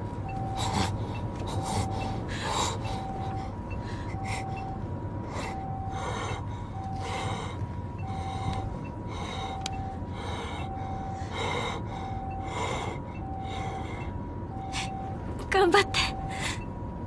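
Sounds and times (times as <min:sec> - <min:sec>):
two-tone ambulance siren: 0:00.0 - 0:17.0.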